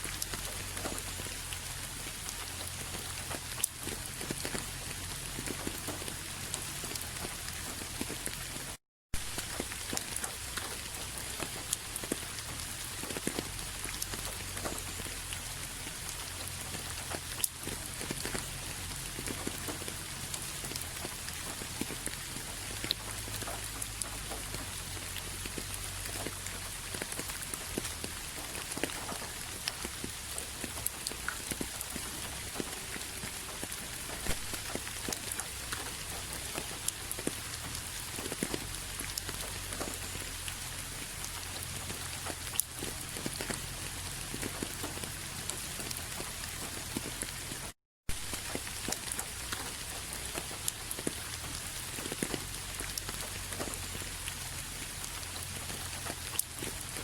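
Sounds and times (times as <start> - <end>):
rain drops ticking on a surface: 0.0 - 57.0.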